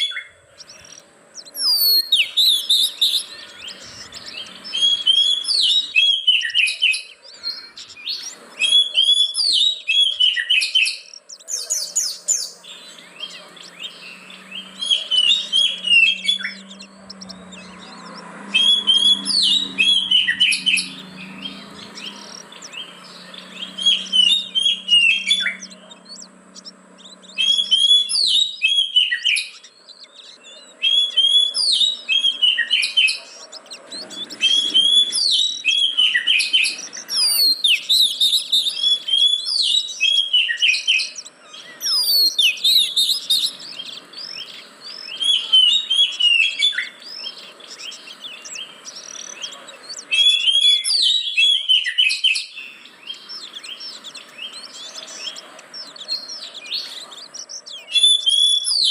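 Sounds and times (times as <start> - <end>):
bird singing whistled phrases: 0.0 - 58.9.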